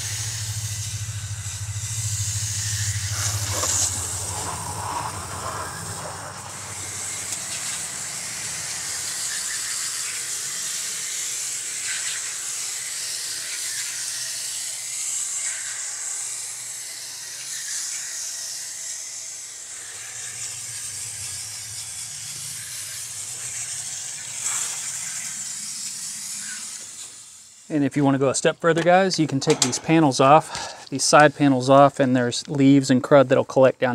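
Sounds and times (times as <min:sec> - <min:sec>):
water spray hissing on metal: 0:00.0 - 0:31.8.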